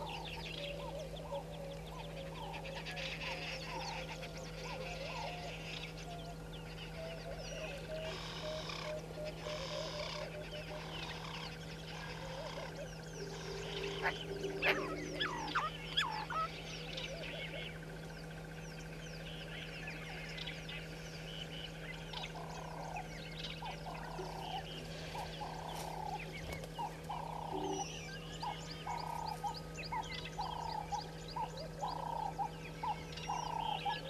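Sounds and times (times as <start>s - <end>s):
low rounded bird call: 0.0s - 34.0s
small birds chirping: 0.0s - 34.0s.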